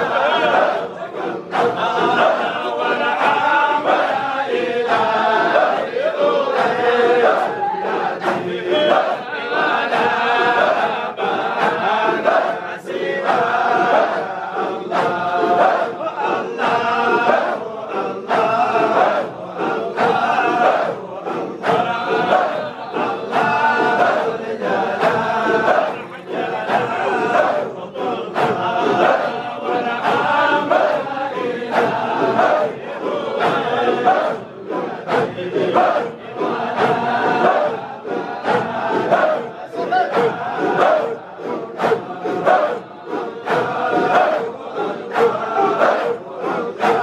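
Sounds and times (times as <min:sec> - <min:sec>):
crowd of men chanting: 0:00.0 - 0:47.0.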